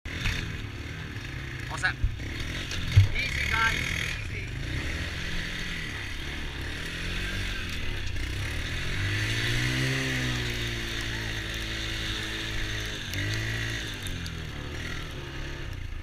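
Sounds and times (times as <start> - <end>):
atv engine revving: 0.1 - 16.0.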